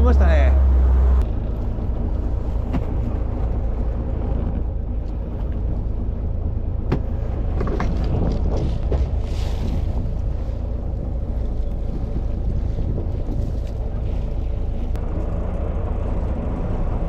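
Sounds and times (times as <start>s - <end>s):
boat engine rumble: 0.0s - 17.0s
rushing wind and water: 0.0s - 17.0s.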